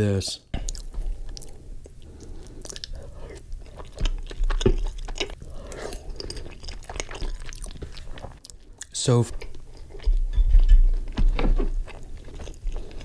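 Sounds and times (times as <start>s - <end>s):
wet chewing: 0.6s - 13.0s.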